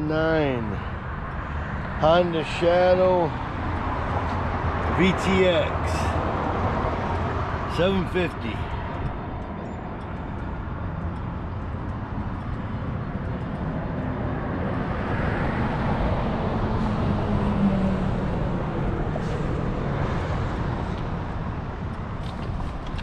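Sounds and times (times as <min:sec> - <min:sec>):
road noise: 0:00.0 - 0:23.0
vehicle engine rumble: 0:00.0 - 0:23.0.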